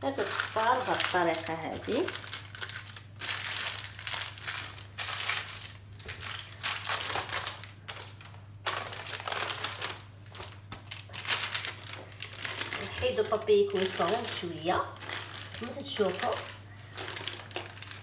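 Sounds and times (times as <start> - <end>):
parchment paper crinkling: 0.0 - 18.0.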